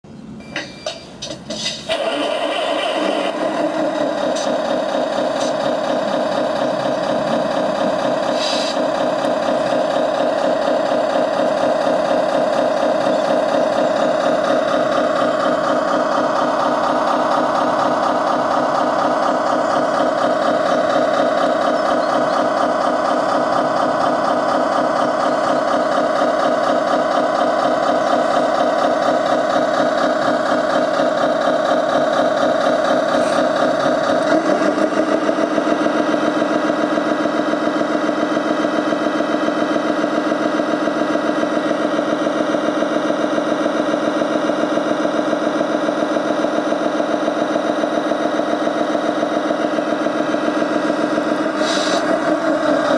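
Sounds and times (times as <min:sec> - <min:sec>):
diesel truck engine idling: 0:01.1 - 0:52.9.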